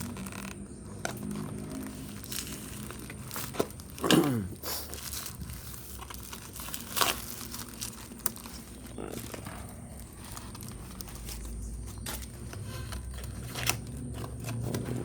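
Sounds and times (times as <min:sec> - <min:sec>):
cardboard crinkling and tearing: 0:00.0 - 0:15.0.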